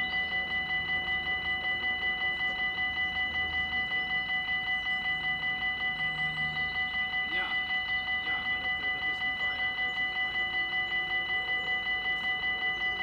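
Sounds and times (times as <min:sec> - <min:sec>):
level-crossing bell ringing: 0:00.0 - 0:13.0.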